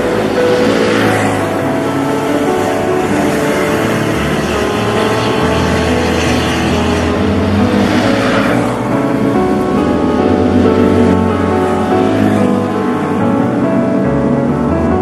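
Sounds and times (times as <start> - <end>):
cars passing: 0.0 - 15.0
motorcycles passing: 0.0 - 15.0
vehicle sweeping past: 0.0 - 15.0.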